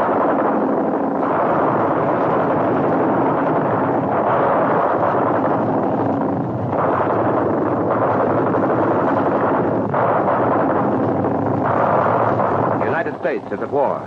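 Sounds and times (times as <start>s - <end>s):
roar of explosions and fire: 0.0s - 14.0s.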